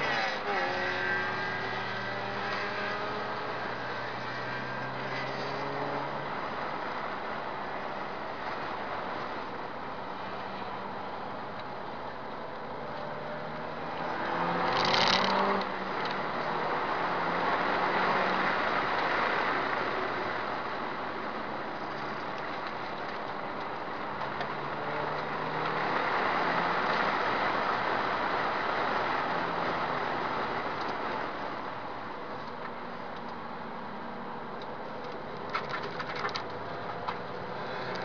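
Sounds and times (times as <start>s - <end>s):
road and wind noise: 0.0s - 38.0s.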